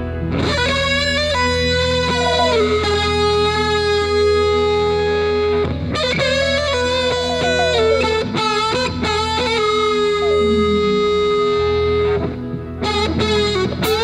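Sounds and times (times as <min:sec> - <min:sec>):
electric guitar lead: 0:00.0 - 0:14.0
low accompaniment: 0:00.4 - 0:14.0.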